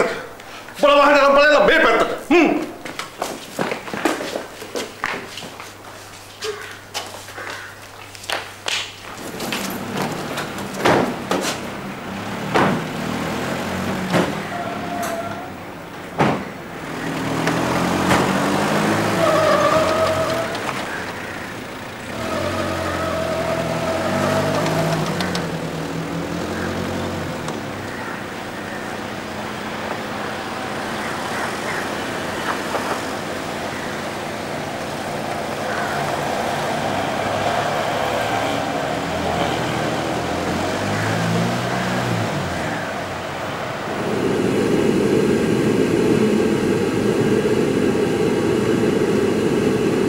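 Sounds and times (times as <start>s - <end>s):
car engines revving: 8.9s - 50.0s.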